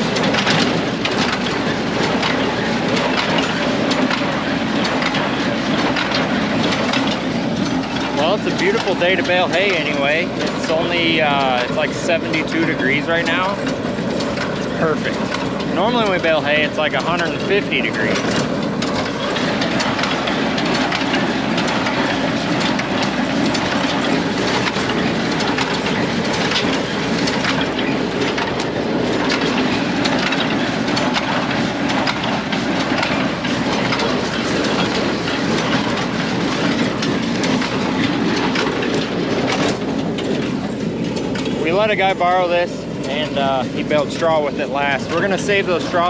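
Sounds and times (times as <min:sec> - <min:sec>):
tractor engine: 0:00.0 - 0:46.0.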